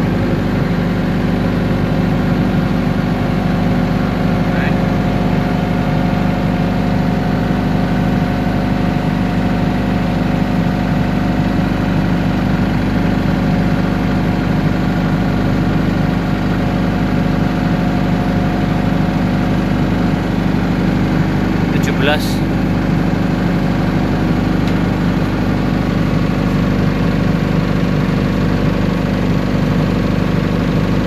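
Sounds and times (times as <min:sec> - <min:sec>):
generator engine running: 0:00.0 - 0:31.0.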